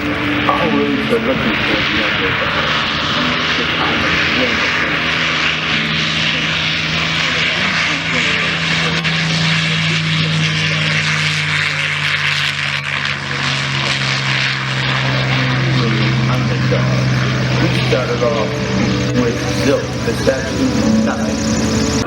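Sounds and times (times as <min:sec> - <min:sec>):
propeller aircraft engine flying past: 0:00.0 - 0:22.0.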